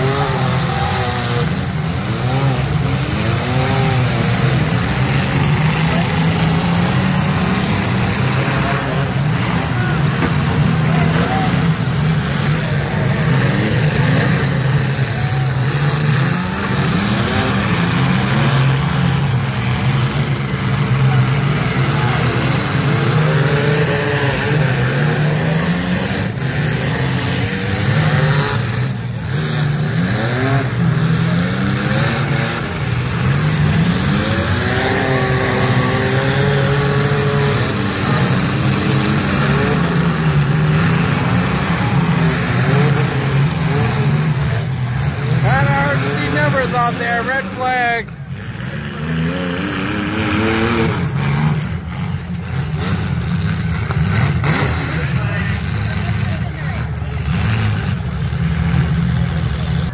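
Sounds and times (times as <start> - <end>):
car engines revving hard: 0.0 - 59.9.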